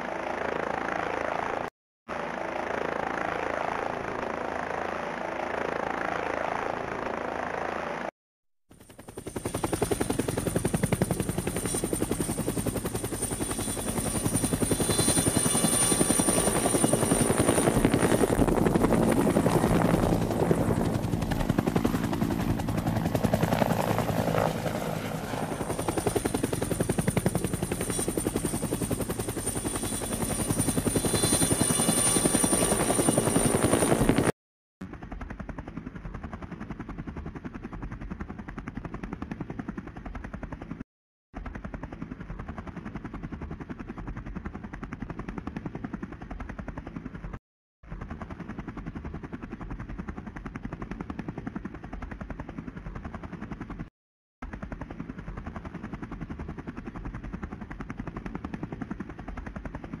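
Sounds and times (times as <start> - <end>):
helicopter rotor chop: 8.7 - 40.8, 41.4 - 60.0.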